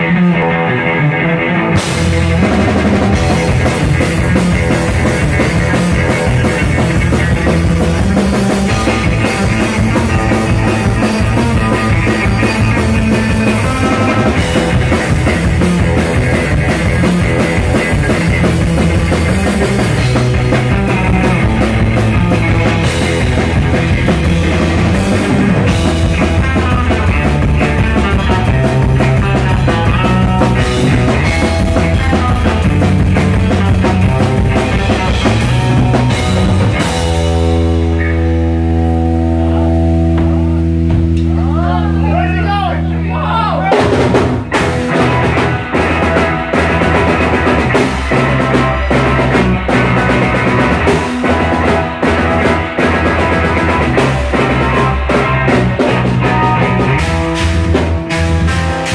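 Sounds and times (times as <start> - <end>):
bass guitar: 0.0 - 58.9
drum kit: 0.0 - 58.9
electric guitar: 0.0 - 58.9.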